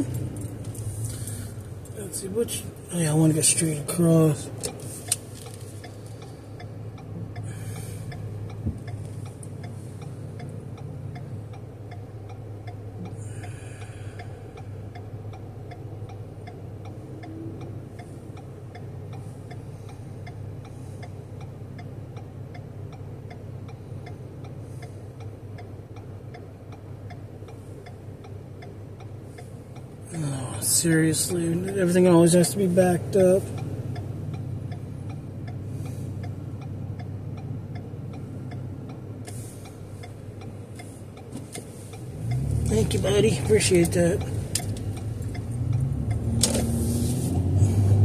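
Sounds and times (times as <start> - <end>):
steady ticking: 0.0 - 46.8
car engine idling: 0.0 - 48.0.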